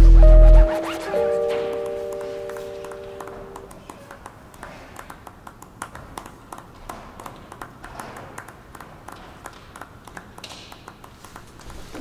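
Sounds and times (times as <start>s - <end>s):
people clapping hands: 1.6s - 12.0s.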